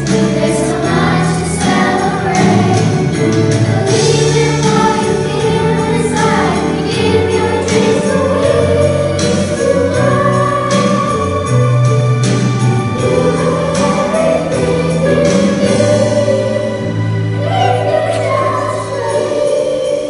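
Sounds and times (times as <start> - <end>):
jingle bells shaking: 0.0 - 16.8
children's choir singing: 0.0 - 20.0
instrumental accompaniment: 0.0 - 20.0.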